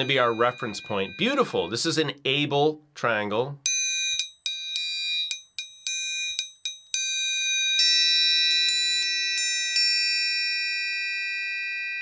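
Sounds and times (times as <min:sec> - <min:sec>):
triangle ringing: 0:00.0 - 0:02.1, 0:03.7 - 0:12.0.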